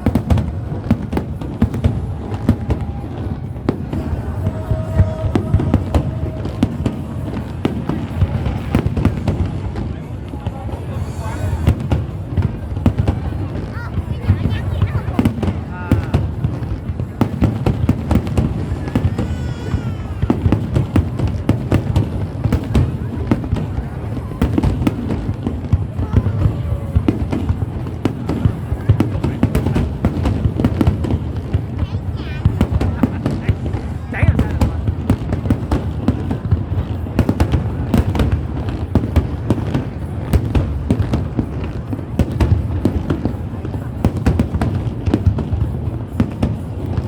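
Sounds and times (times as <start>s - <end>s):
fireworks banging: 0.0s - 47.0s.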